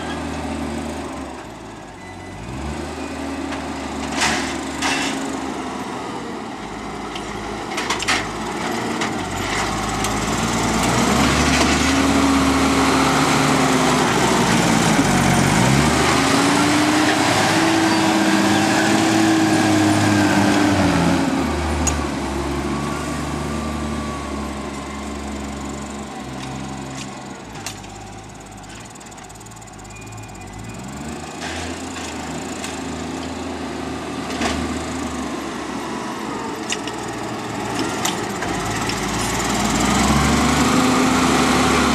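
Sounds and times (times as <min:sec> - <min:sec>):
tractor engine working: 0:00.0 - 0:41.9.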